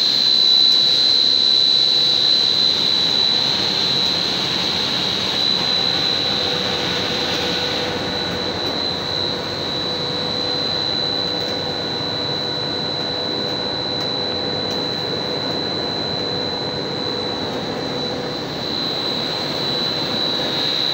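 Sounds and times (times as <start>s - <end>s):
high constant whine: 0.0s - 20.9s
machine drone: 0.0s - 20.9s.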